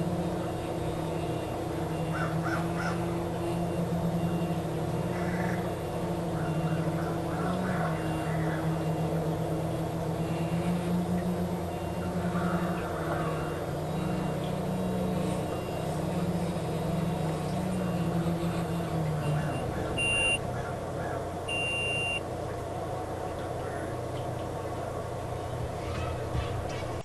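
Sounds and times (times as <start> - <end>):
drone motors humming: 0.0 - 27.0.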